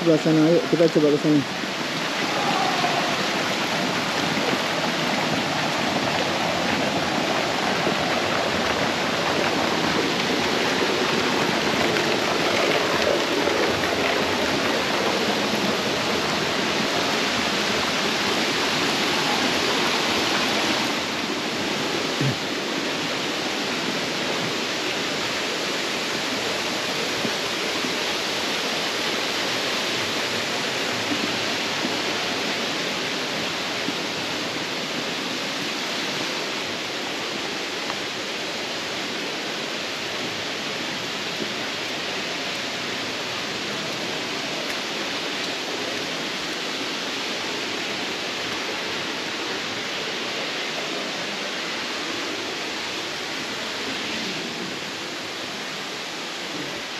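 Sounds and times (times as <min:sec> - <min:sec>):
water rushing over rocks: 0:00.0 - 0:56.9.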